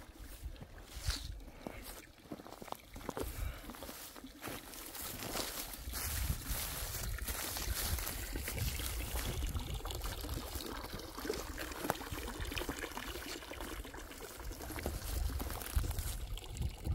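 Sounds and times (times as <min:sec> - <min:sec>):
water trickling: 0:00.0 - 0:16.9.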